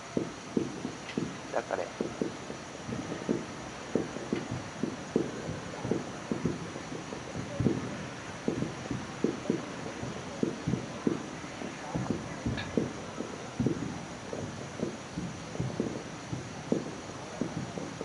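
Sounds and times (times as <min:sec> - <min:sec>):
fireworks booming: 0:00.0 - 0:18.0.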